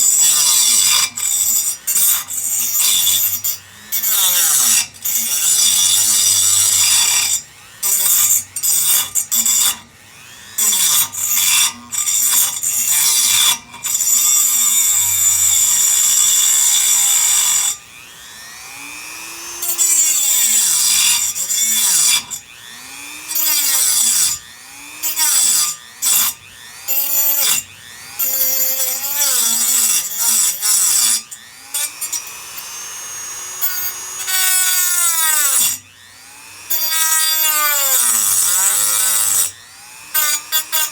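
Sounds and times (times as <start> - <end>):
power tool cutting metal: 0.0 - 40.9.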